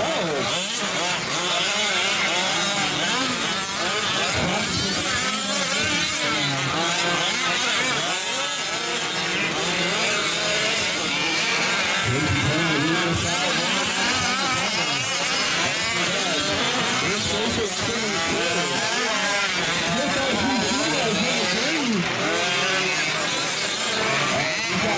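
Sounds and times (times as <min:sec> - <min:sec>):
small two-stroke engines revving: 0:00.0 - 0:24.9.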